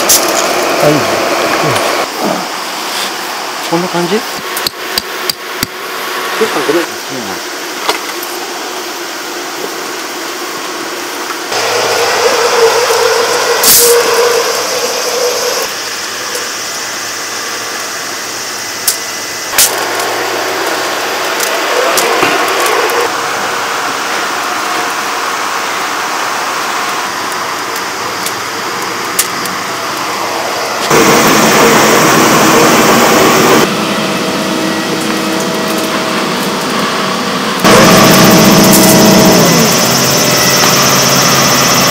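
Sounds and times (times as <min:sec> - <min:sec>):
machinery engine running: 0:00.0 - 0:07.5, 0:10.5 - 0:41.9.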